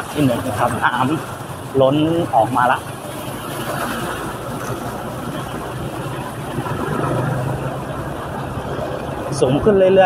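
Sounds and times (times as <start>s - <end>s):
motorcycle engine humming: 0.0s - 10.0s
tyres on wet street: 0.0s - 10.0s.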